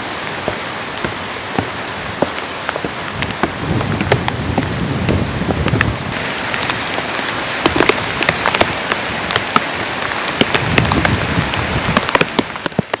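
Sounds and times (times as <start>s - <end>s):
rain drops tapping on surface: 0.2s - 13.0s.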